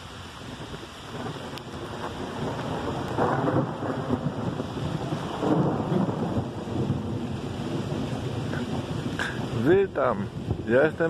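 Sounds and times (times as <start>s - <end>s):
heavy rain on forest canopy: 0.0s - 11.0s
thunder rumbling: 0.5s - 11.0s.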